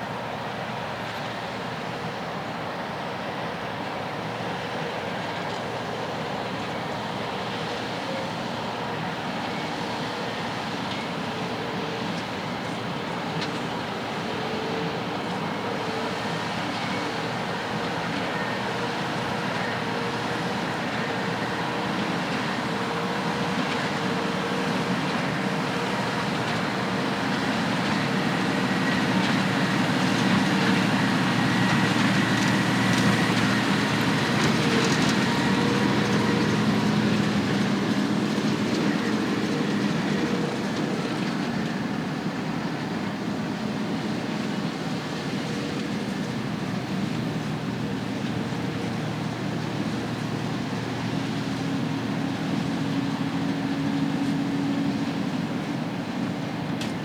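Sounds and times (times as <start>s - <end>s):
heavy farm machinery running: 0.1s - 57.0s.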